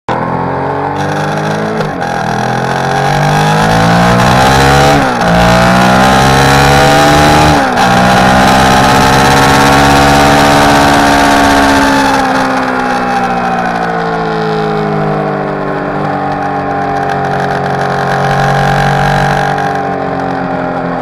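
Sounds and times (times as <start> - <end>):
motorcycle engine accelerating: 0.1 - 21.0.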